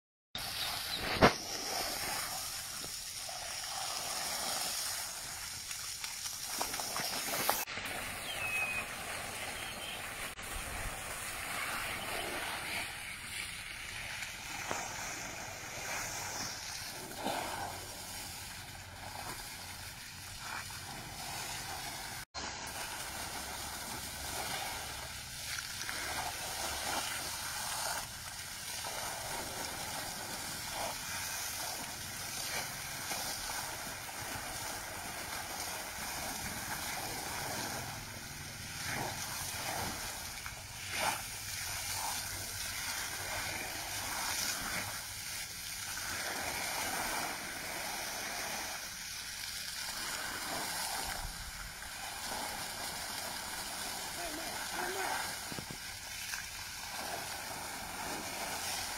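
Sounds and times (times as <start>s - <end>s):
fountain water splashing: 0.4s - 58.9s.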